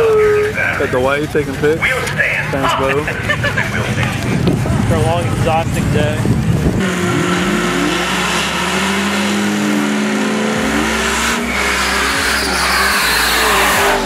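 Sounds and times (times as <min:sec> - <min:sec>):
drag car engine revving: 0:00.0 - 0:14.0.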